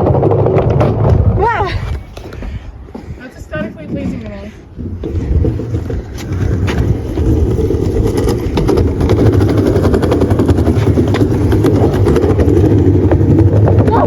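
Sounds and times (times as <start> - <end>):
skateboard wheels rolling: 0.0 - 14.0.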